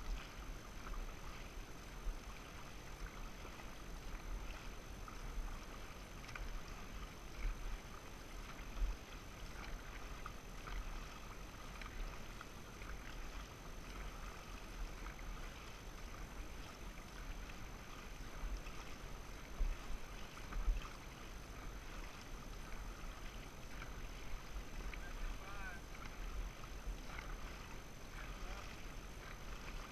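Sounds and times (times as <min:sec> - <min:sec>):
paddles dipping in water: 0:00.0 - 0:29.9
water rushing past hull: 0:00.0 - 0:29.9
wind rumble on microphone: 0:00.0 - 0:29.9.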